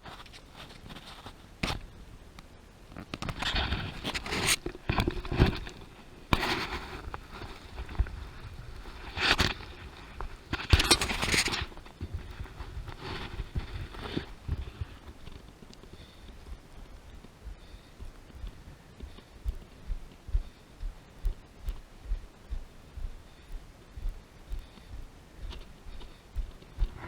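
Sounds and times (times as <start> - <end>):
footsteps crunching on trail: 3.4 - 27.0.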